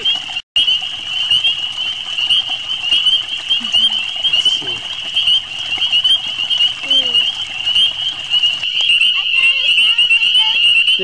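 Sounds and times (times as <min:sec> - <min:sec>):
frogs peeping: 0:00.0 - 0:11.0.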